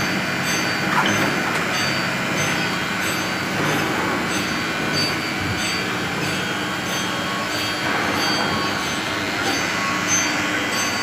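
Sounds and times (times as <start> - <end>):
machine humming with high tones: 0.0 - 11.0.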